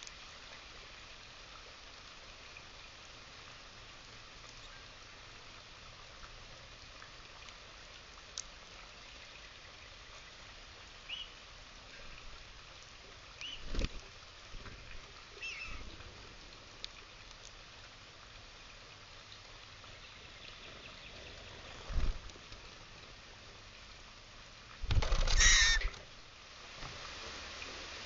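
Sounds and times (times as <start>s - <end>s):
light rain pattering: 0.0s - 28.0s.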